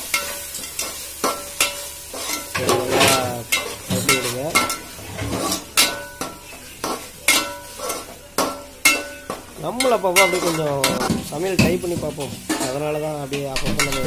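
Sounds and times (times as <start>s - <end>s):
metal spatula scraping a pan: 0.0s - 13.0s, 13.6s - 14.0s
oil sizzling: 0.0s - 14.0s.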